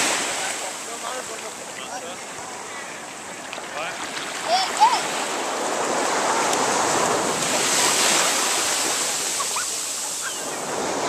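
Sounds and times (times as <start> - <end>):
waves washing onto beach: 0.0 - 11.0.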